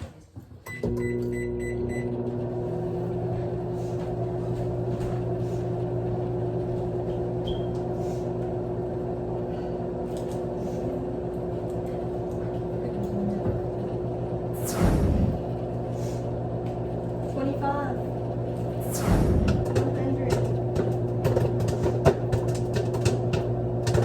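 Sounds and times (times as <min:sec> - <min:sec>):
microwave oven humming: 0:00.7 - 0:24.0.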